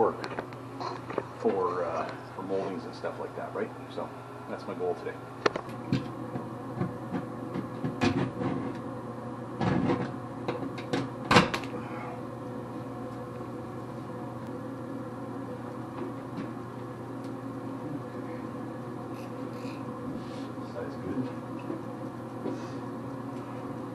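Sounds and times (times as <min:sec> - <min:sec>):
low room hum: 0:00.0 - 0:23.9.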